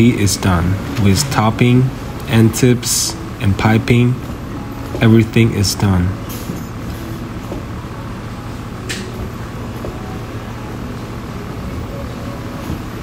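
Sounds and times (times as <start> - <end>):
factory machinery hum: 0.0 - 13.0
ventilation hum: 0.0 - 13.0.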